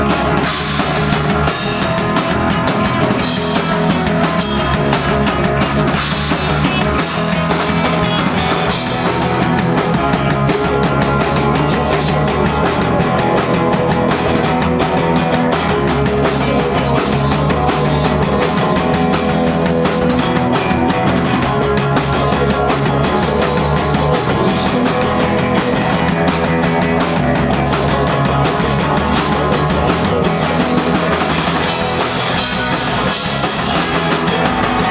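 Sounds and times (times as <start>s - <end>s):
fast dense drumming: 0.0s - 34.9s
punk rock band playing: 0.0s - 34.9s.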